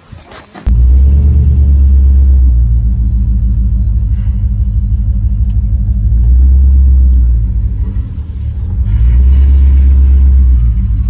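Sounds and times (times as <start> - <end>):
car engine deep rumble: 0.6 - 11.0.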